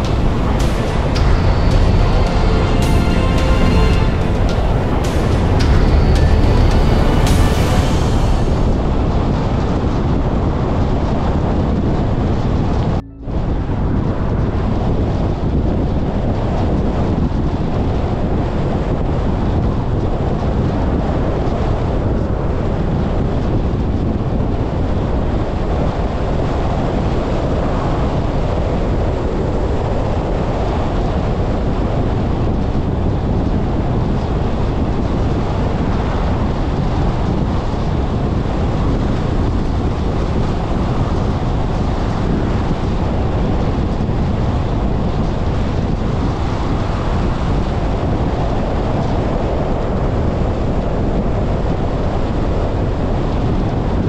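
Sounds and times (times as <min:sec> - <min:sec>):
wind rushing over microphone: 0:03.8 - 0:54.0.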